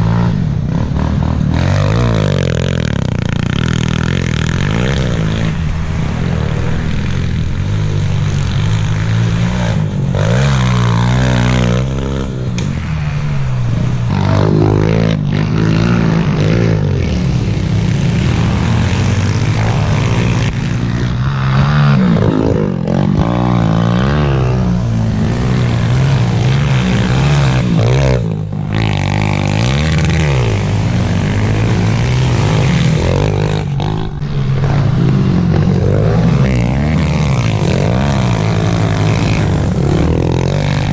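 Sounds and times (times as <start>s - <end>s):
pit bike engines revving: 0.0s - 40.9s.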